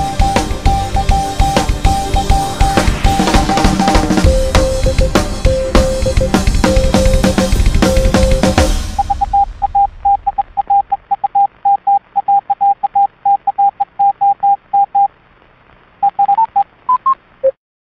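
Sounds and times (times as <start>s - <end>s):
morse code beeps: 0.0s - 15.1s, 16.0s - 17.6s.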